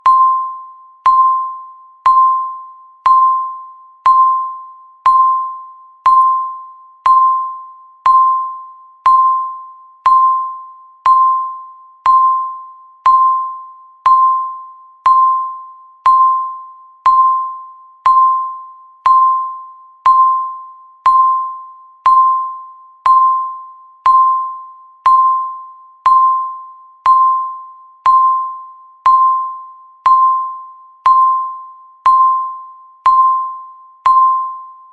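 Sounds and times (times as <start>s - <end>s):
timer ding beeps: 0.0s - 34.9s.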